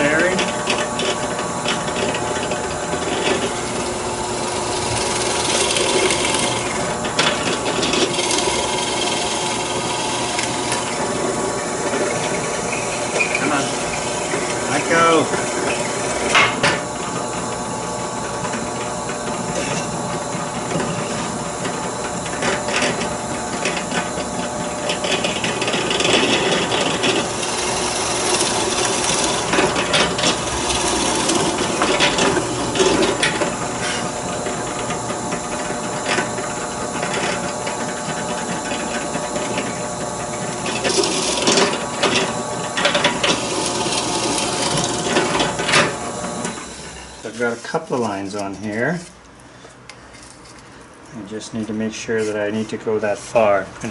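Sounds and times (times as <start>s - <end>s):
drill press motor hum: 0.0s - 47.6s
drill bit rasping into wood: 1.1s - 16.6s, 19.5s - 47.5s.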